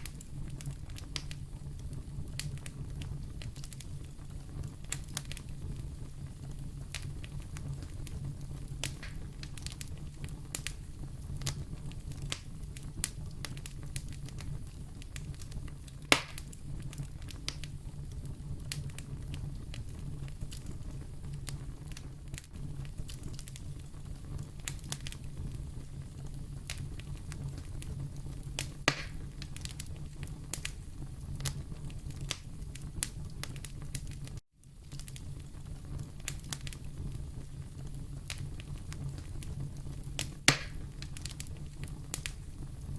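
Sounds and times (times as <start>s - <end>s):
fire popping: 0.0s - 42.9s
wood fire crackling: 0.0s - 42.9s.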